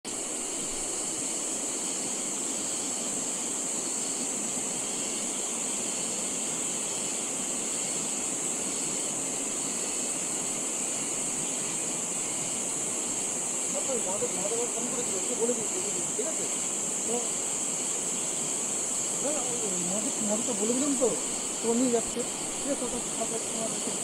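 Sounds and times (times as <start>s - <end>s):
high hiss: 0.0s - 24.0s
river rushing: 0.1s - 24.0s.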